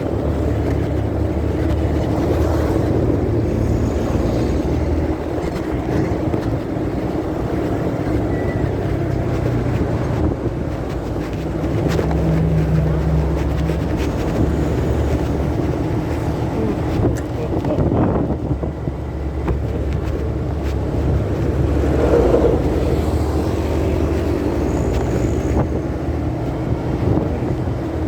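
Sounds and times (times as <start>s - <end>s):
muffled motorcycle engine drone: 0.0s - 28.0s
wind rush: 0.0s - 28.0s.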